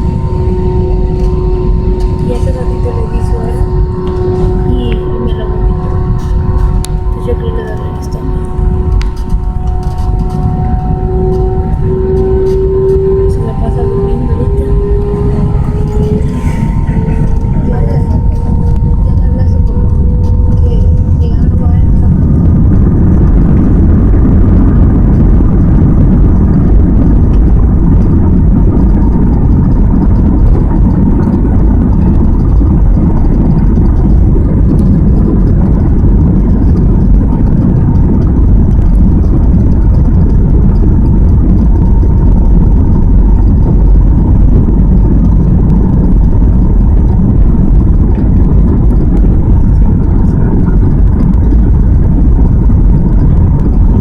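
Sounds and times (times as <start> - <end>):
jet engine and airflow rumble: 0.0 - 54.0.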